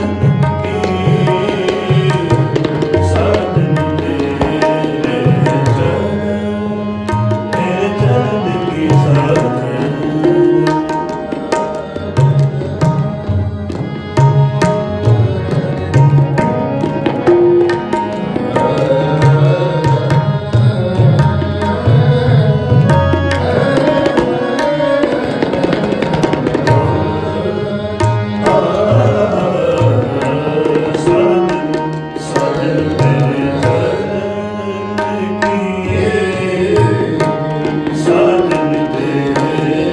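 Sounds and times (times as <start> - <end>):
sustained harmonium tones: 0.0 - 39.9
tabla playing a steady rhythm: 0.0 - 39.9.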